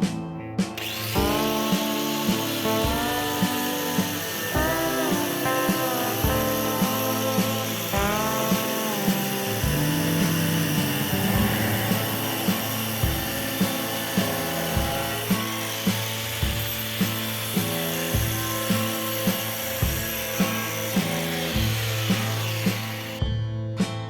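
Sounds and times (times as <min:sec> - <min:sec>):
background music with steady beat: 0:00.0 - 0:24.0
angle grinder hissing: 0:00.8 - 0:23.2.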